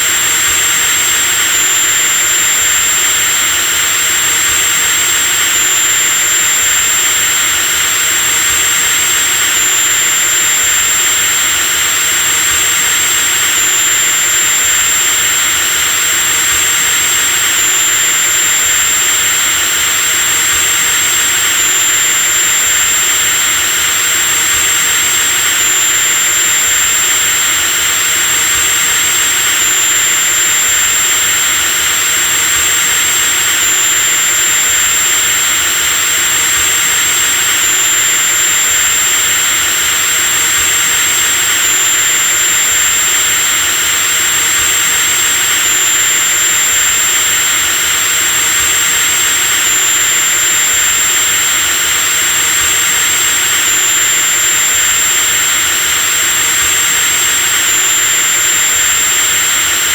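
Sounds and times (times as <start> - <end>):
electric drill running: 0.0 - 59.9.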